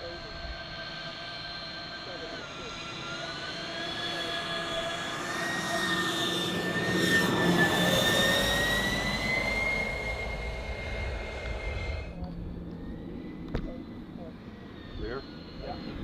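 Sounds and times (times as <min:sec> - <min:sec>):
model airplane fans whining: 0:00.0 - 0:16.0.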